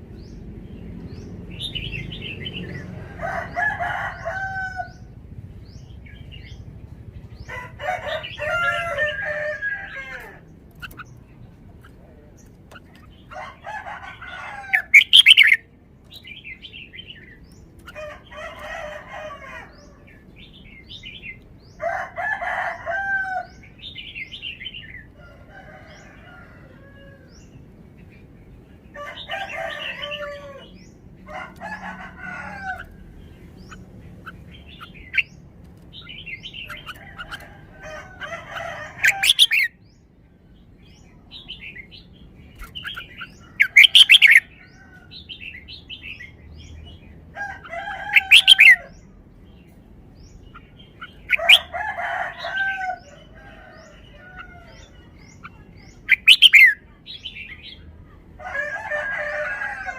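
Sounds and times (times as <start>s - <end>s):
bird singing loud phrases: 0.0s - 59.9s
soft bird calls: 5.7s - 59.9s.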